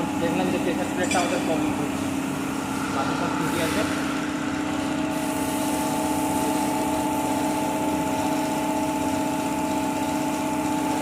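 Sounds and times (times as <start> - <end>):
machine droning steadily: 0.0 - 11.0.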